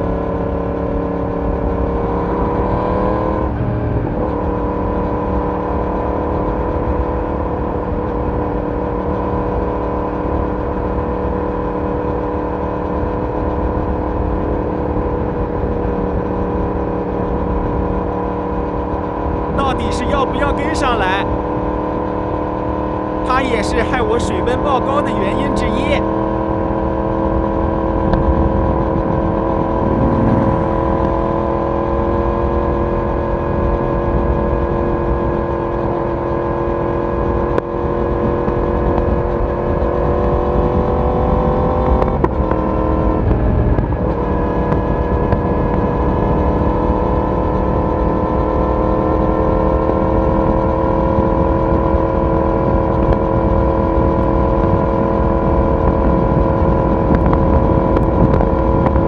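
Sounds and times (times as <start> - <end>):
motorcycle exhaust cruising: 0.0 - 59.0.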